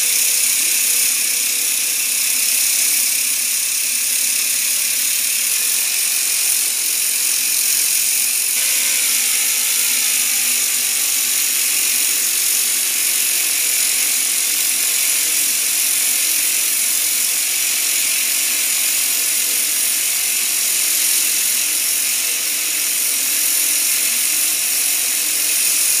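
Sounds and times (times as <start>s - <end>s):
hiss of steam: 0.0s - 26.0s
steam engine whirr and clatter: 0.0s - 26.0s.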